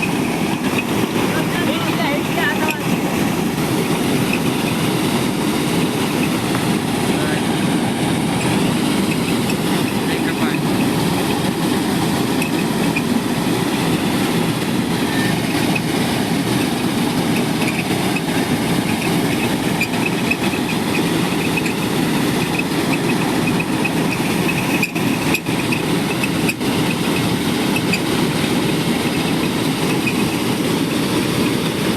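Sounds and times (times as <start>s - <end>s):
combine harvester diesel engine running: 0.0s - 31.9s.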